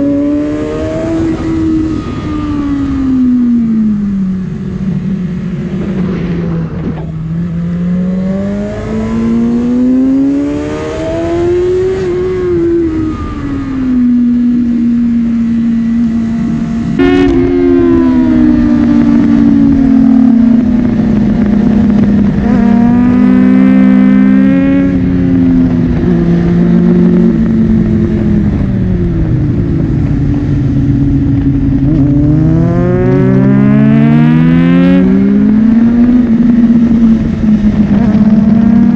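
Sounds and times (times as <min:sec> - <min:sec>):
sports bike engine revving: 0:00.0 - 0:38.9.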